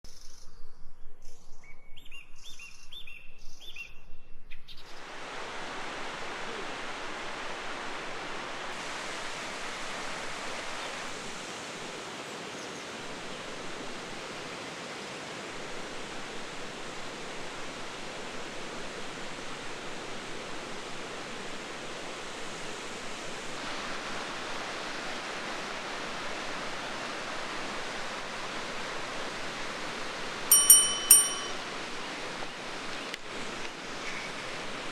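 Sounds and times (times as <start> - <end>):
running water rushing: 4.9 - 34.9.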